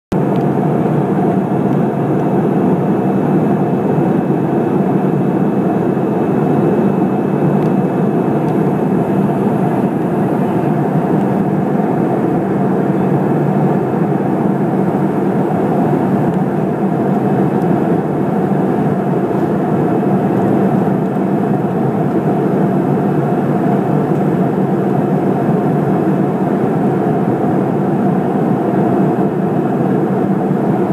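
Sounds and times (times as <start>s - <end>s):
airplane engine drone: 0.1s - 30.9s.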